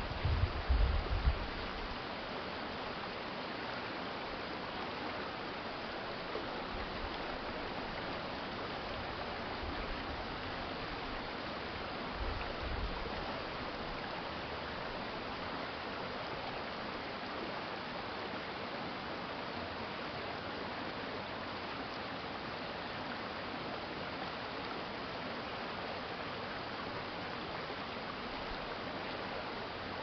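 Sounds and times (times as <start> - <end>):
stream water flowing: 0.0 - 30.0.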